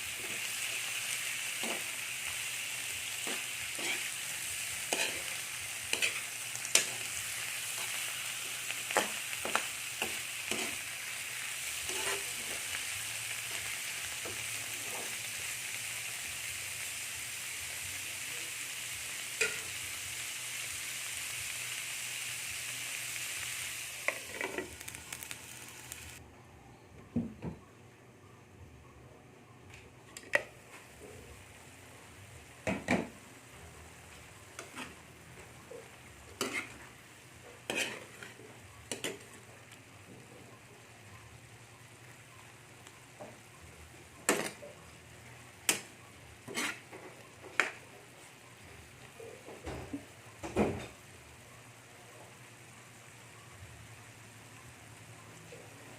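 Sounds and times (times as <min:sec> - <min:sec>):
squid sizzling in a pan: 0:00.0 - 0:26.2, 0:33.9 - 0:55.9.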